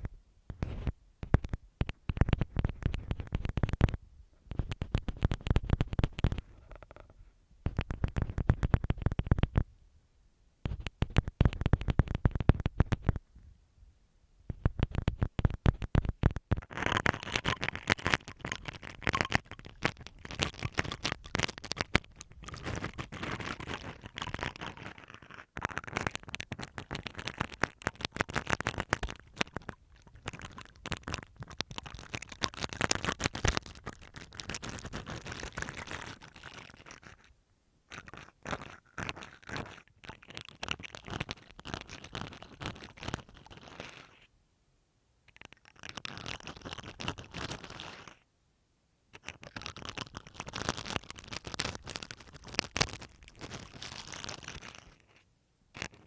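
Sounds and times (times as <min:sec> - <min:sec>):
toothbrush scratching over tape: 0:00.6 - 0:07.1, 0:07.7 - 0:09.6, 0:10.7 - 0:13.2, 0:14.6 - 0:37.3, 0:37.9 - 0:44.3, 0:45.3 - 0:48.2, 0:49.2 - 0:55.2, 0:55.8 - 0:56.0.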